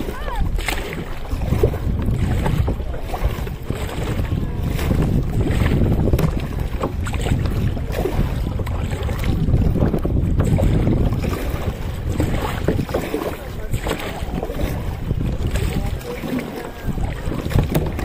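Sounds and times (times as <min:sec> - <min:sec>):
water splashing around kayak: 0:00.0 - 0:18.0
wind rumbling on microphone: 0:00.0 - 0:18.0.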